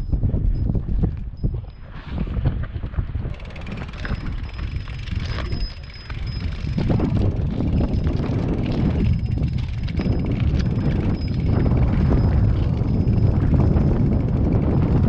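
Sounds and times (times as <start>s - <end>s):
wind buffeting microphone: 0.0s - 15.0s
bike clattering over rough ground: 2.9s - 15.0s.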